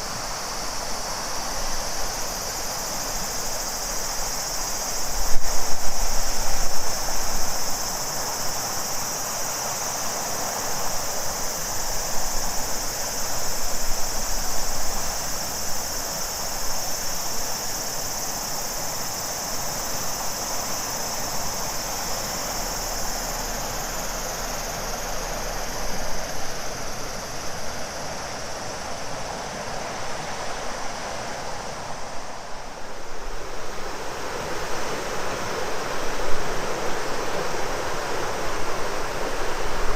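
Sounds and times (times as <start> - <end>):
cicada chorus: 0.0 - 39.9
river flowing: 0.0 - 39.9.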